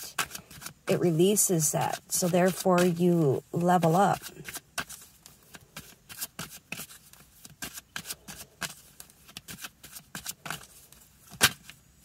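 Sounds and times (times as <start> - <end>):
cards shuffling: 0.0 - 1.0, 1.8 - 11.8.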